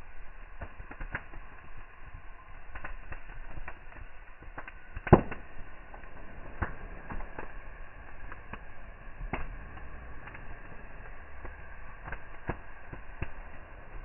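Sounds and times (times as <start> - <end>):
firewood crackling: 0.0 - 14.0
sharp pops from fire: 0.0 - 14.0.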